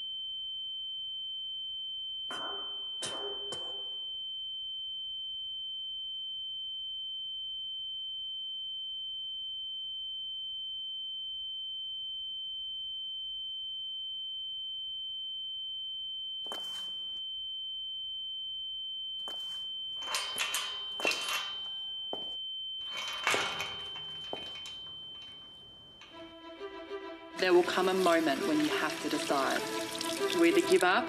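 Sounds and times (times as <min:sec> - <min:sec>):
high-pitched ringing tone: 0:00.0 - 0:26.4.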